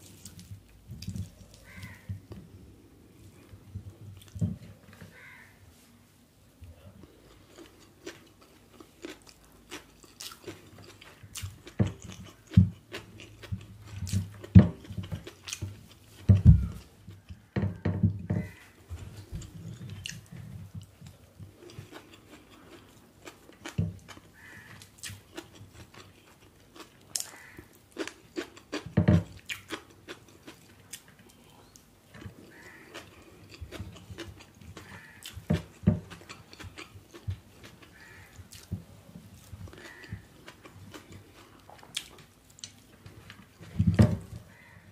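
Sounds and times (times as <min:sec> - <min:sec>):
close-miked chewing: 0:06.6 - 0:17.5, 0:18.4 - 0:44.8.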